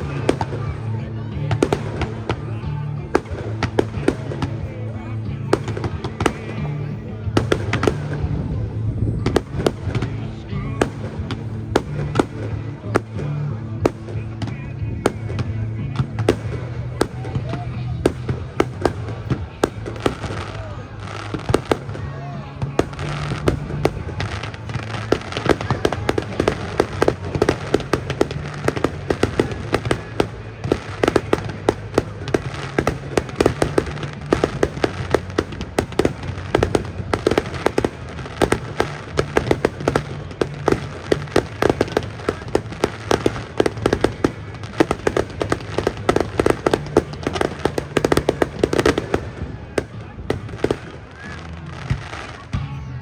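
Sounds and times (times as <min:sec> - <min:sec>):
fireworks bangs and pops: 0:00.0 - 0:53.0.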